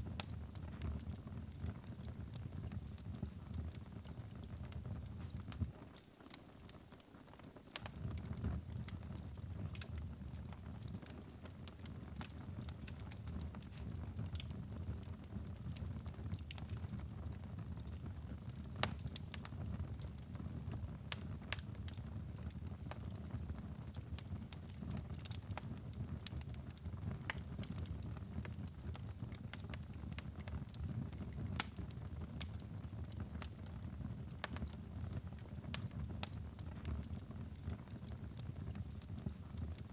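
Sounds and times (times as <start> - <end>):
low rumble of flames: 0.0 - 5.8, 7.8 - 39.9
fire popping and snapping: 0.0 - 39.9.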